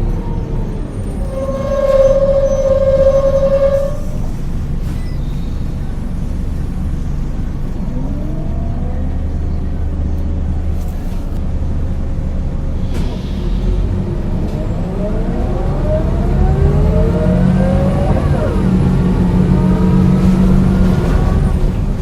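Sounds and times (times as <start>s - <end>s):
diesel bus engine running: 0.0s - 22.0s.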